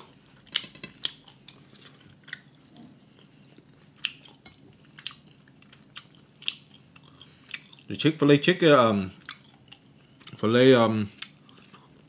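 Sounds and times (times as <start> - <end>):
person chewing food: 0.0 - 7.9, 9.1 - 10.4, 11.1 - 12.0.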